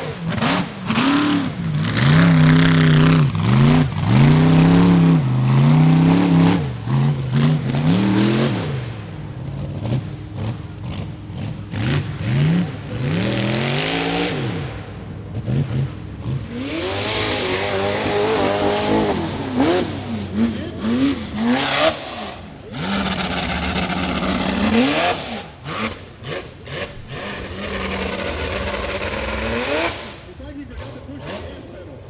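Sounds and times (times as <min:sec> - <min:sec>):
engine revving hard: 0:00.0 - 0:32.0.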